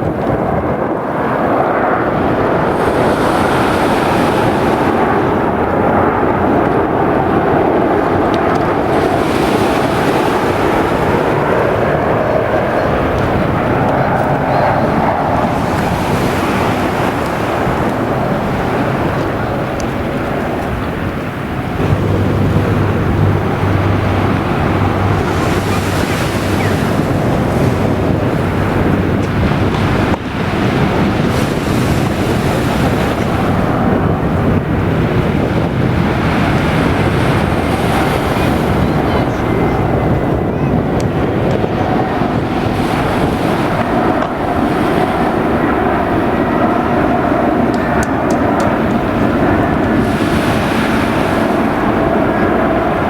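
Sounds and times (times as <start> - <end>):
jet airliner roar: 0.0 - 53.0
wind buffeting microphone: 0.0 - 53.0.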